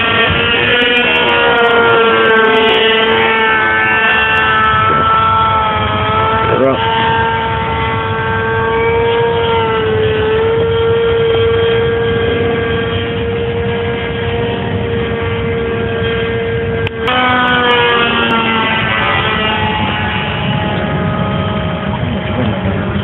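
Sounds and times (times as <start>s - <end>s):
model airplane motor drone: 0.0s - 23.0s.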